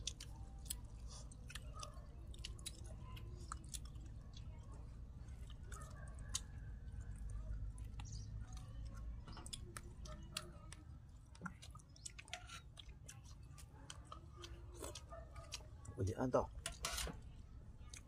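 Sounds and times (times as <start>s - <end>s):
people chewing and lip smacking: 0.0s - 18.0s.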